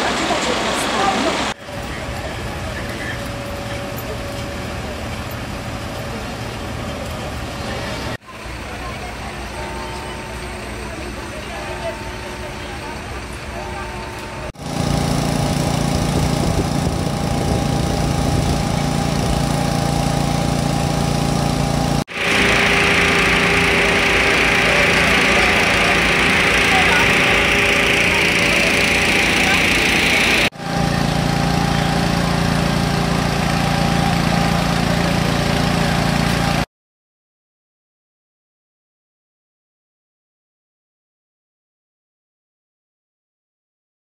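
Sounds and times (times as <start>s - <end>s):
small petrol engine running: 0.0s - 36.7s.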